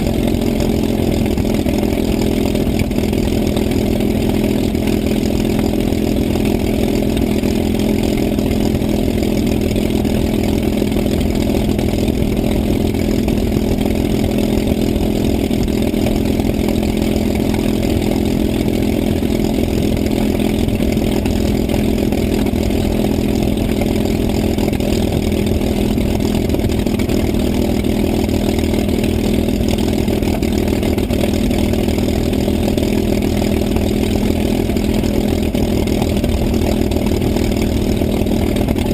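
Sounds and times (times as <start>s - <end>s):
piston aircraft engine droning: 0.0s - 38.9s.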